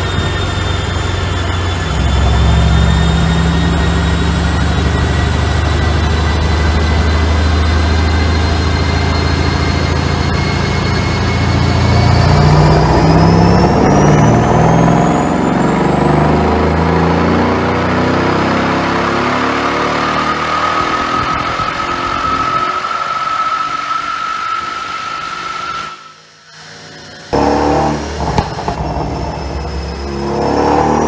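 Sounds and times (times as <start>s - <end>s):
car engine running hard: 0.0s - 25.4s, 27.3s - 31.0s
thin rising whine: 0.0s - 31.0s.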